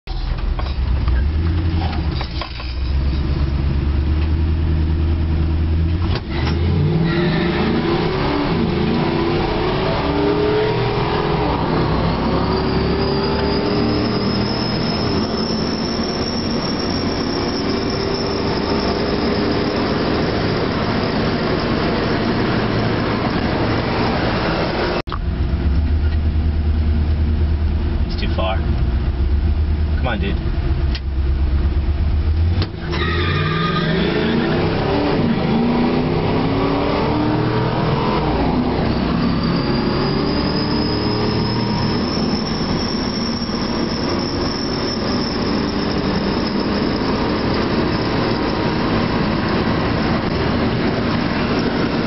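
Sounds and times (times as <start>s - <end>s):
road and wind noise: 0.0s - 52.0s
truck engine accelerating: 0.1s - 52.0s.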